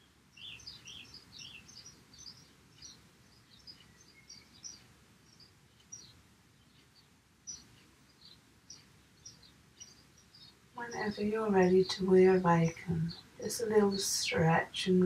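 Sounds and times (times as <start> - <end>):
faint high bird chirps: 0.0 - 14.8.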